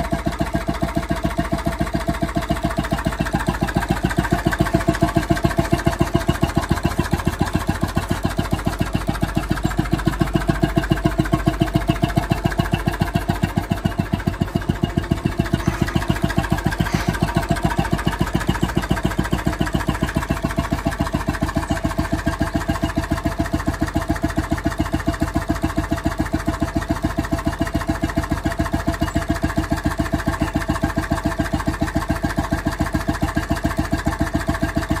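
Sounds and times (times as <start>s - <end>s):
oil engine running steadily: 0.0s - 35.0s.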